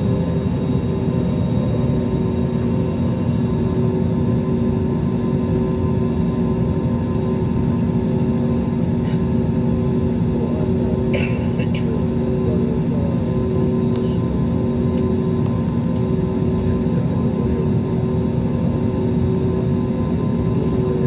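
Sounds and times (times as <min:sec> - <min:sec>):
jet engines rumbling and whining: 0:00.0 - 0:21.0.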